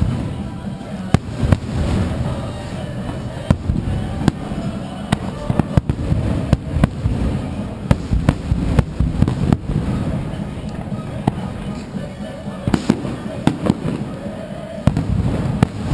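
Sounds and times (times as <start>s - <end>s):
fireworks bursting with sharp bangs: 0.0s - 15.9s
low rumble of explosions: 0.0s - 15.9s.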